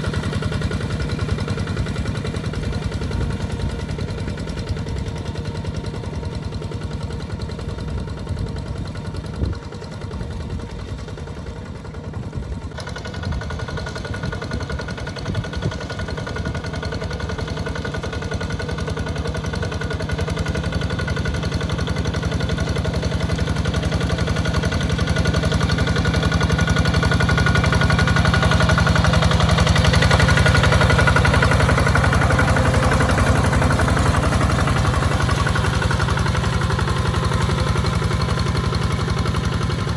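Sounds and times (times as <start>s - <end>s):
walking tractor engine under load: 0.0s - 39.9s.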